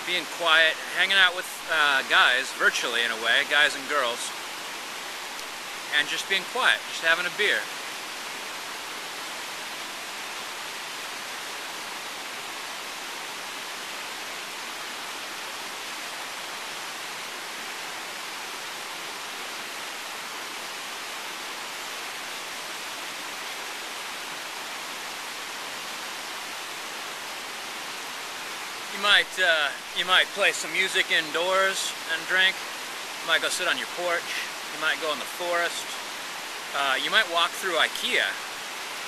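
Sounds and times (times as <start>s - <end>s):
outdoor background hiss: 0.0s - 39.0s.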